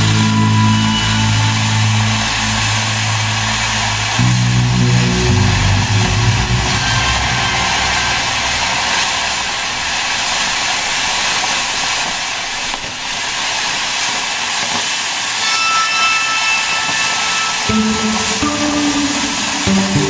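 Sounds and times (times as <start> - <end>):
fountain firework hissing: 0.0 - 15.5, 16.2 - 19.7.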